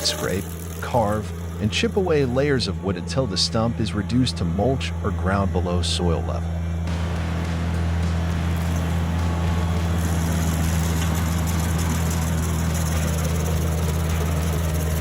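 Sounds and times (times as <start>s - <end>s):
stump grinder engine drone: 0.0s - 5.8s, 6.5s - 15.0s.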